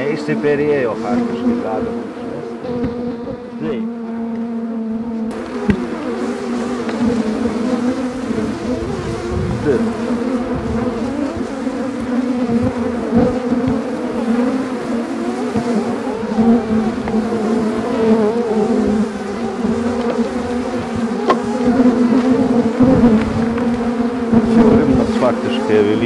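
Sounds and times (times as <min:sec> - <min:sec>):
bees humming: 0:00.0 - 0:26.0.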